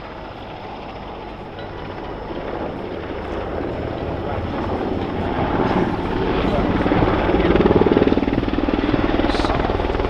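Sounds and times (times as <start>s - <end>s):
helicopter engines whining: 0.0s - 10.0s
helicopter rotor beating: 0.0s - 10.0s.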